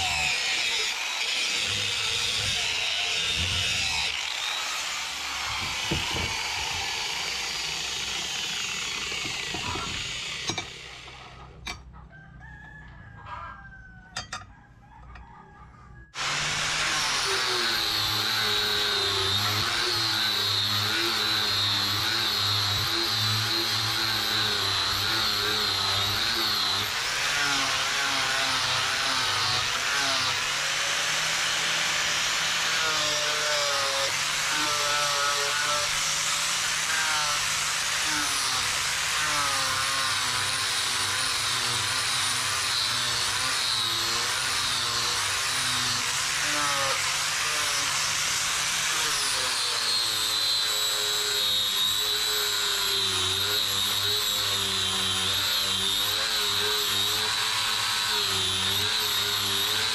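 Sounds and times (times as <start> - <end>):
angle grinder grinding steel: 0.0 - 12.0, 16.1 - 59.9.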